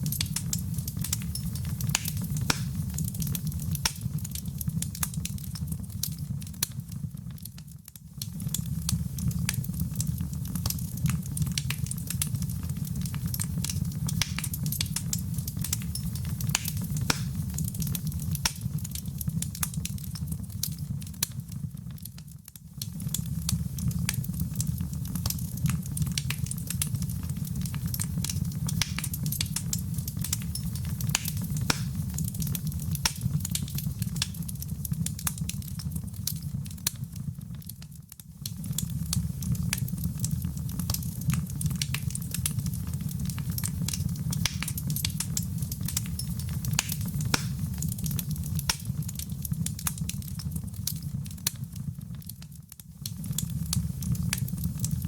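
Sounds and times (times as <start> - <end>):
fire flames rumbling: 0.0 - 7.6, 8.2 - 22.1, 22.8 - 55.0
wood fire crackling and popping: 0.0 - 55.0.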